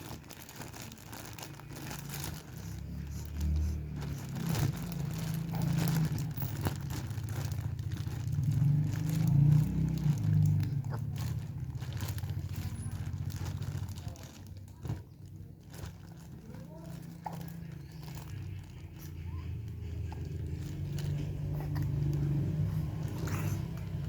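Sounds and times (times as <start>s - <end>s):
crinkling: 0.0s - 24.0s.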